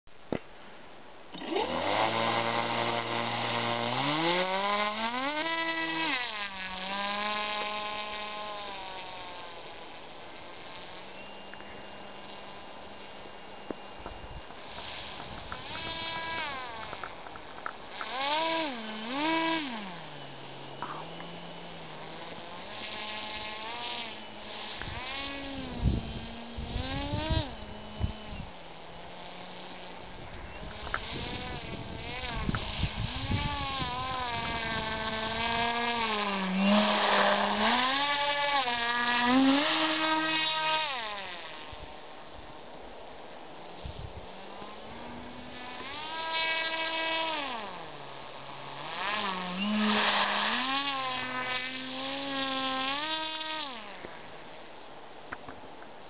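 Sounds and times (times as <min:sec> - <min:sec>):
small electric motor buzzing and revving: 0:01.3 - 0:42.7, 0:43.6 - 0:54.6.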